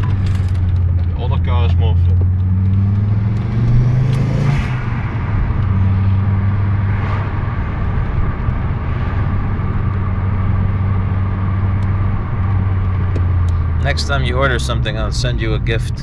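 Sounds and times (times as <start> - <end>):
car engine running steadily: 0.0 - 16.0
road noise: 0.0 - 16.0.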